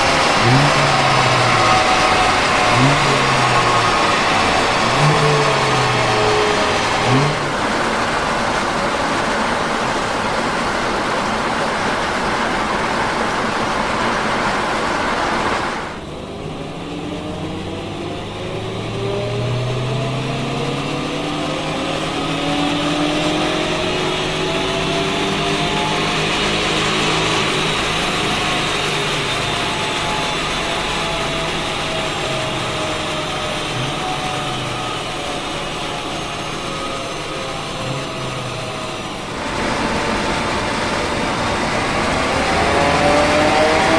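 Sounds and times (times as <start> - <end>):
loud rushing noise: 0.0 - 20.9, 21.5 - 43.9
car engine accelerating: 0.0 - 43.9.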